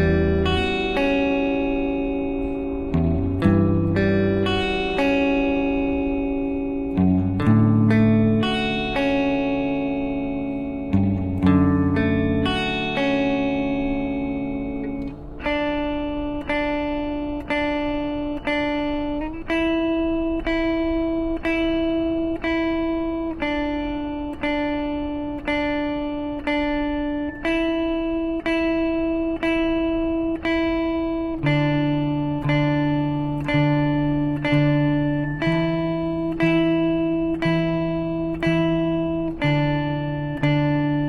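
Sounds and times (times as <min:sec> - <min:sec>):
slow picked guitar music: 0:00.0 - 0:41.0.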